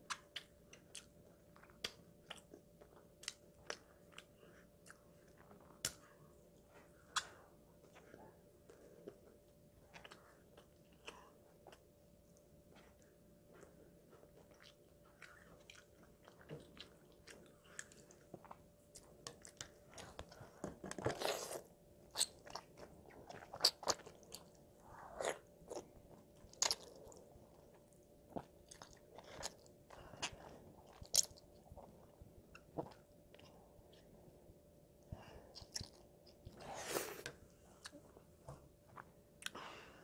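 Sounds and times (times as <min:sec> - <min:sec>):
child chewing with mouth smacks: 0:00.0 - 0:34.4, 0:35.0 - 0:39.7.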